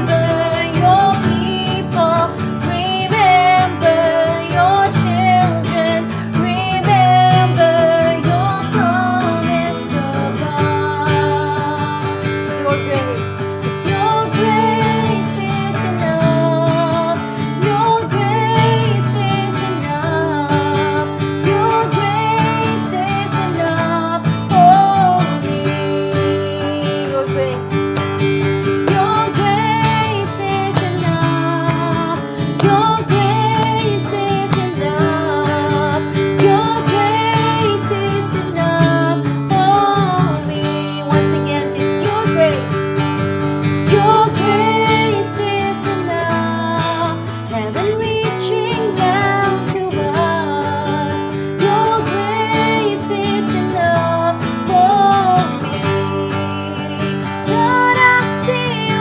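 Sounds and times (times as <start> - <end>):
strummed acoustic guitar: 0.0 - 59.0
women singing: 0.0 - 59.0.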